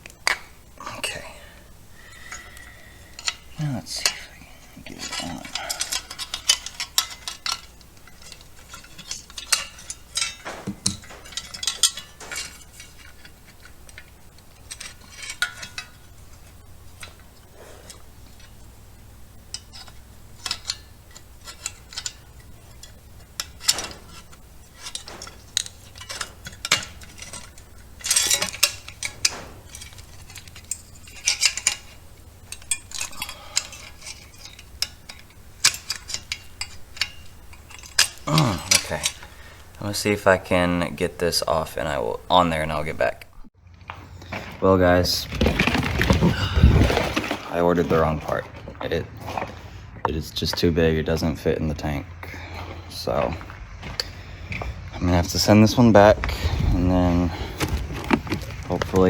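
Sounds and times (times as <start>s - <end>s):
small hard parts clicking and clinking: 0.0s - 44.6s, 51.4s - 59.0s
low steady hum: 0.0s - 59.0s.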